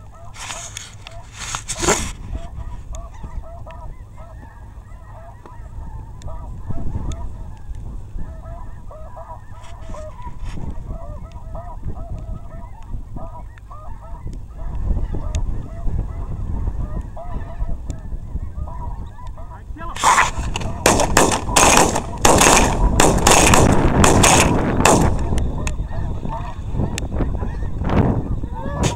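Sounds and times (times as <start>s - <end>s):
geese honking: 0.0s - 28.9s.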